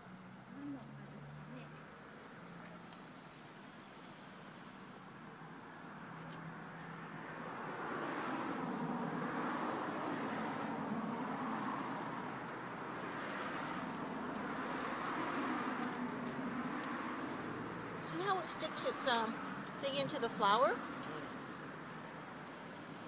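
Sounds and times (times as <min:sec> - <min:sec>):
road traffic rushing: 0:00.0 - 0:23.0.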